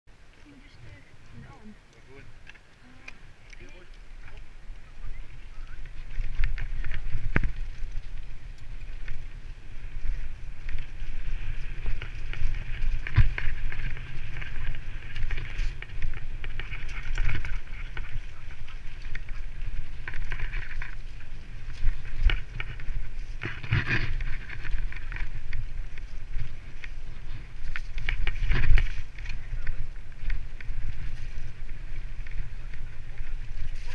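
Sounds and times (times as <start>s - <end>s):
tyres and wind rumble: 0.1s - 33.9s
bike rattling over roots: 0.5s - 33.9s.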